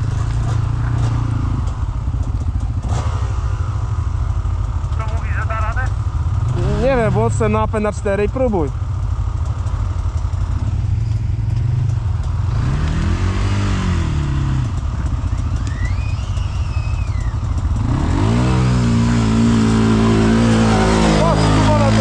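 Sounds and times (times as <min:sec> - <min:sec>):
quad engine revving: 0:00.0 - 0:04.1, 0:05.0 - 0:08.7, 0:10.2 - 0:22.0.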